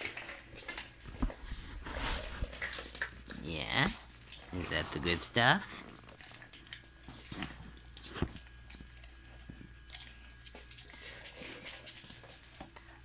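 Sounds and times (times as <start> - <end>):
dog chewing a treat: 0.0 - 13.0.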